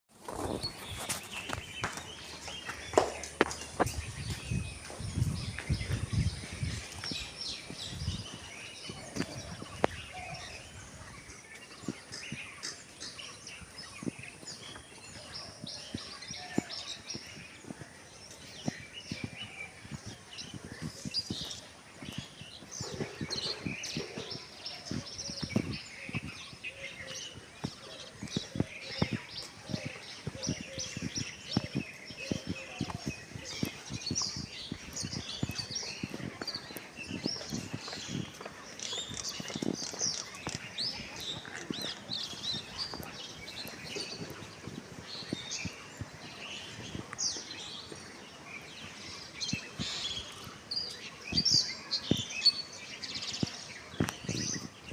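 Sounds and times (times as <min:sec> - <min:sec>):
birds chirping: 0:00.1 - 0:54.9.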